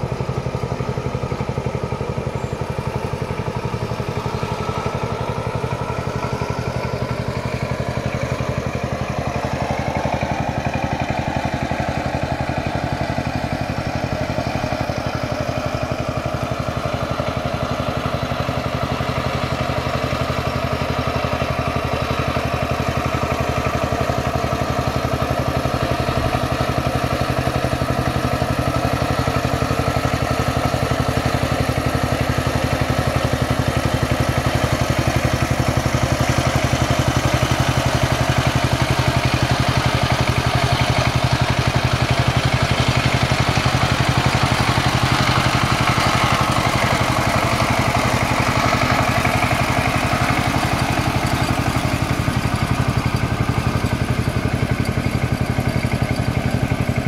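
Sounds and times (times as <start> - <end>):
power tiller diesel engine running: 0.0 - 57.0.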